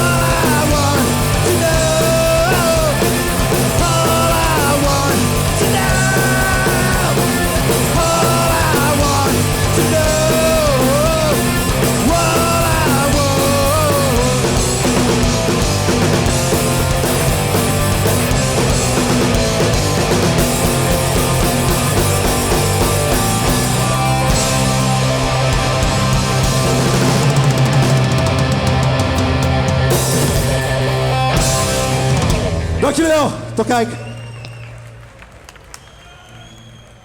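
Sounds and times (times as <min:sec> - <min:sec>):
punk band playing loud: 0:00.0 - 0:34.3.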